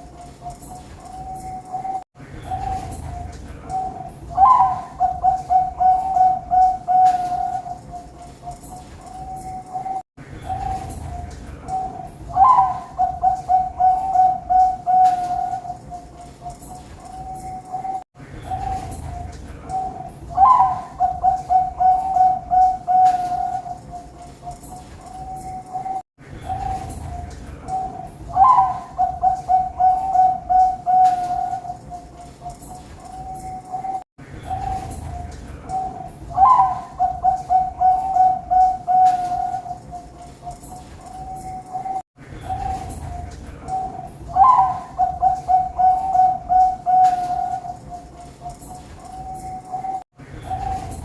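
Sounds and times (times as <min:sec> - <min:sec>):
close bird repeated coo notes: 0:00.0 - 0:51.0
doves cooing: 0:00.0 - 0:51.0.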